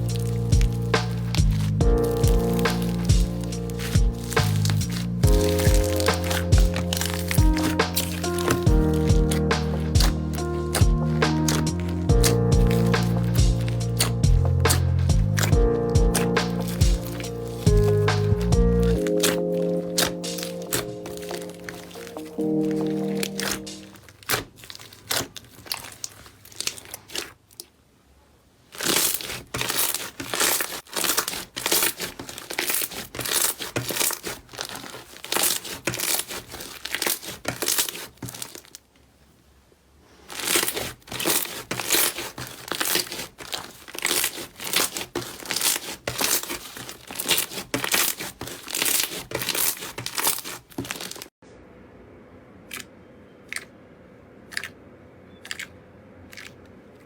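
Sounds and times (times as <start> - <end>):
slime crackling and popping: 0.0 - 27.7, 28.6 - 38.9, 40.2 - 51.4, 55.4 - 55.7.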